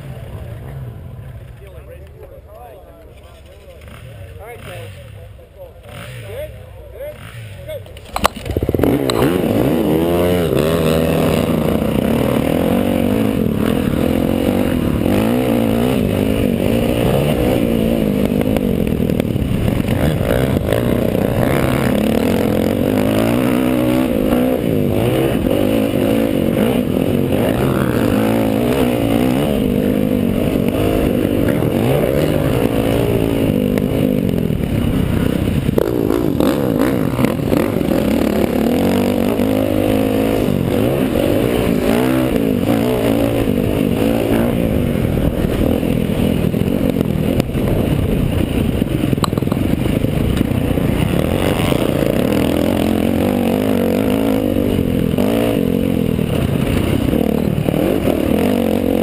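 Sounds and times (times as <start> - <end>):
motocross bike engine revving: 3.1 - 59.0.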